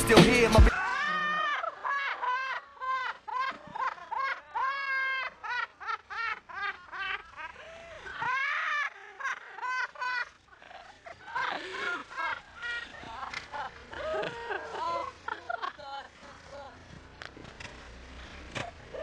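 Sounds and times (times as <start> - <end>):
young people laughing: 0.7 - 17.5.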